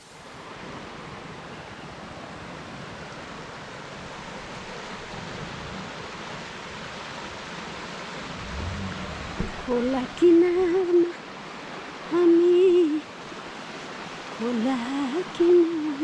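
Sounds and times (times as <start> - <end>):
river and waterfall rushing: 0.1 - 16.0.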